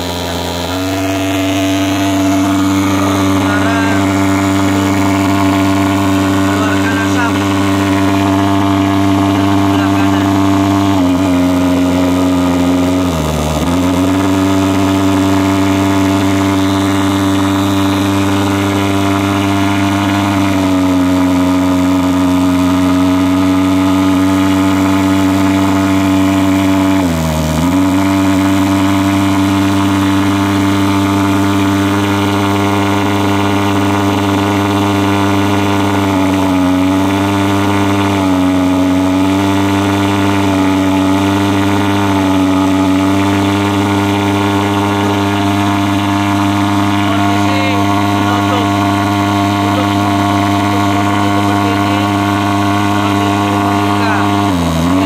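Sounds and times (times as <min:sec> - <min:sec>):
pulse-jet engine buzzing drone: 0:00.0 - 0:55.0.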